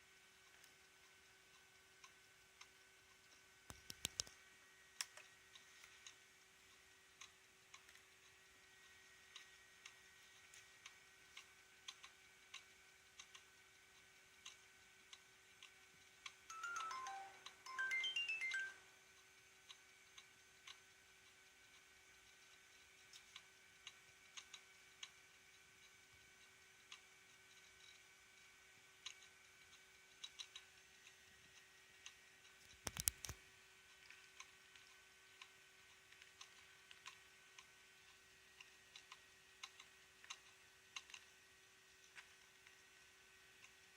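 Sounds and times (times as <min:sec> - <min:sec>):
hard disk drive clicking: 0:00.0 - 0:18.7, 0:19.6 - 0:43.9
hard drive faint hum: 0:00.0 - 0:43.9.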